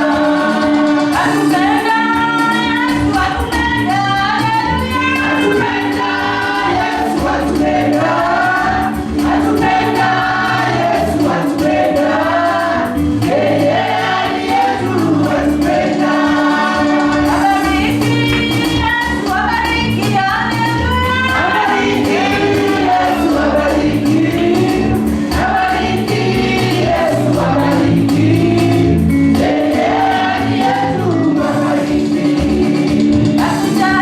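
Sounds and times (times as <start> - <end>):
group singing gospel song: 0.0 - 34.0
instrumental backing with beat: 0.0 - 34.0.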